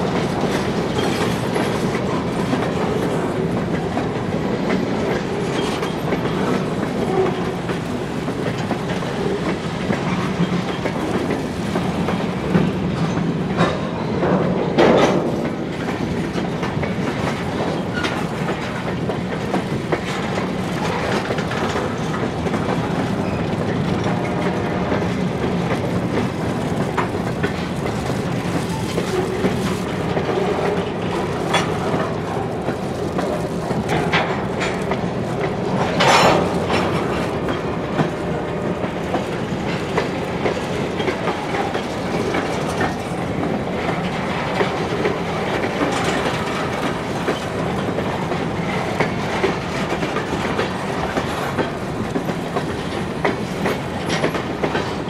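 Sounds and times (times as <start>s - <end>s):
train wheels clicking on rails: 0.0s - 55.0s.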